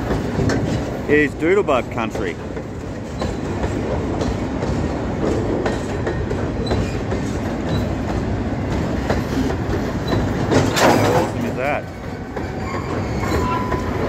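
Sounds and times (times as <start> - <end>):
train running rumble: 0.0 - 14.0
train wheels clacking over rail joints: 0.0 - 14.0.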